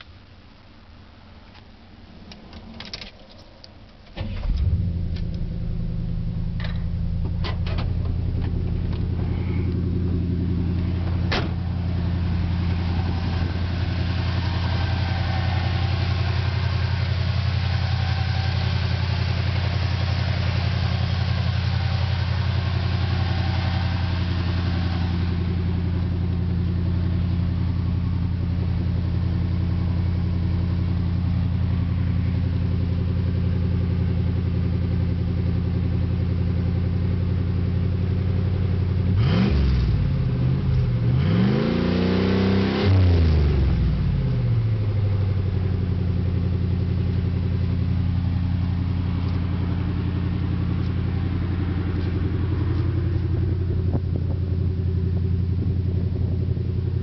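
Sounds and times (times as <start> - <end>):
truck engine starting and idling: 2.3 - 57.0.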